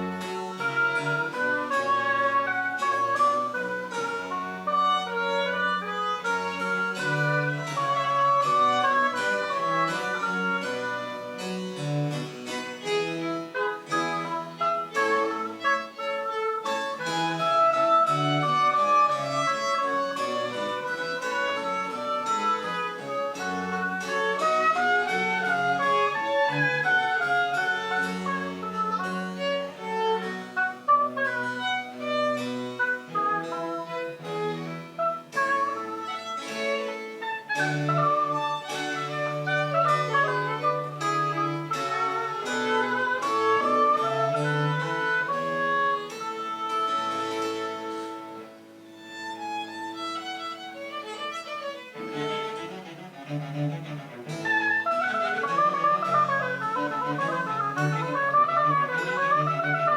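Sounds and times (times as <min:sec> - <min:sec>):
bowed strings chamber music: 0:00.0 - 0:59.9.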